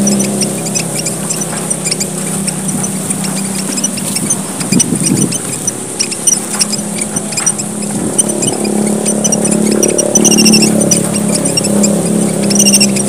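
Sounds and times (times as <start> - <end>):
finches chirping: 0.0 - 13.0
steady low hum: 0.0 - 13.0.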